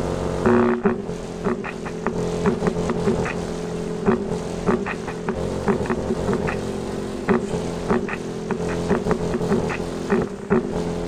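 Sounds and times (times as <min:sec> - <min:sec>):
bass-heavy music from subwoofer: 0:00.0 - 0:11.0.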